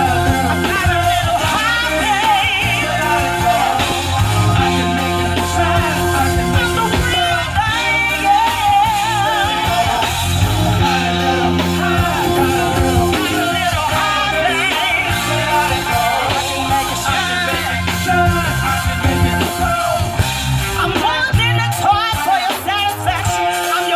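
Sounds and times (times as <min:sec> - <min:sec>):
live band playing: 0:00.0 - 0:23.9
person singing: 0:00.0 - 0:23.9.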